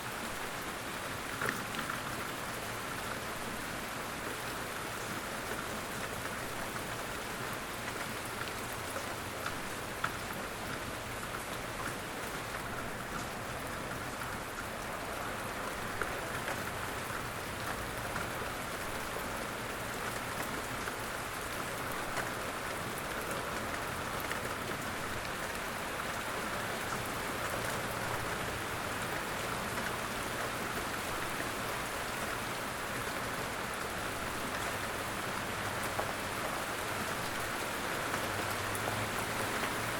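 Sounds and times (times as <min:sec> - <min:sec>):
rain hissing on leaves: 0:00.0 - 0:39.9.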